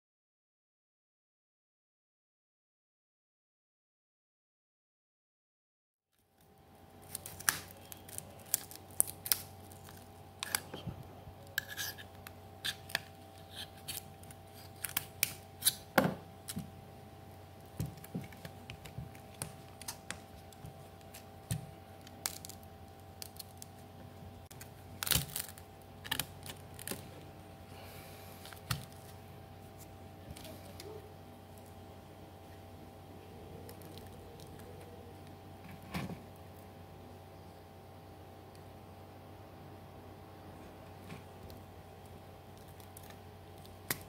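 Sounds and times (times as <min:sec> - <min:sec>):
faint steady hum: 0:06.2 - 0:44.0.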